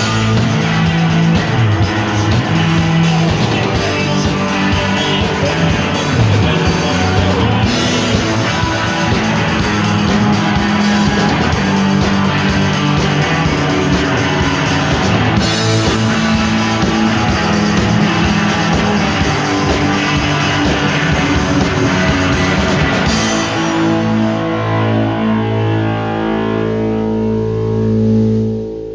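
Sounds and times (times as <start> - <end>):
ringing guitar chord: 0.0 - 28.9
rock music with guitar: 0.0 - 28.9.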